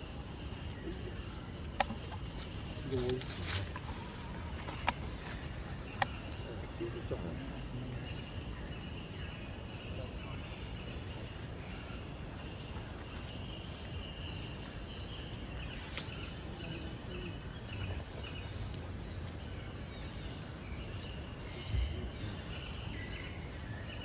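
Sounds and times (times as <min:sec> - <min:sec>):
low rumble and hiss: 0:00.0 - 0:24.0.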